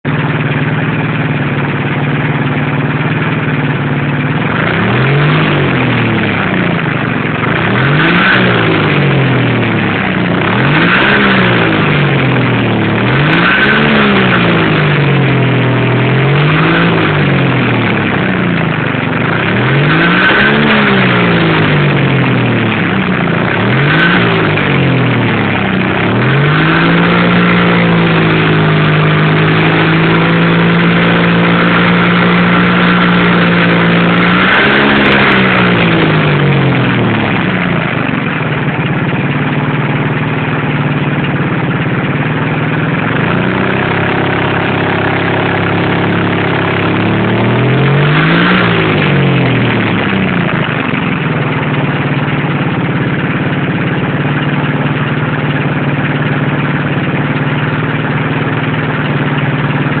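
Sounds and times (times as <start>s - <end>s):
engine idling and revving: 0.0s - 60.0s.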